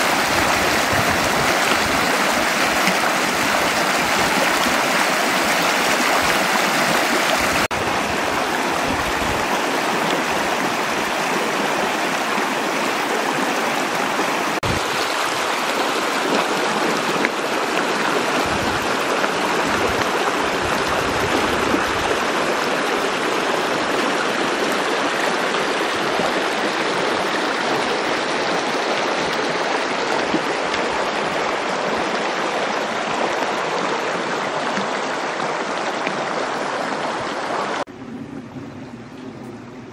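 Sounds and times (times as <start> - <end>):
water rushing over rocks: 0.0 - 37.9.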